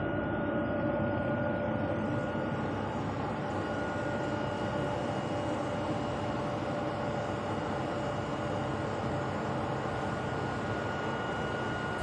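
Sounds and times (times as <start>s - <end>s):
belt conveyor drone: 0.0s - 12.0s.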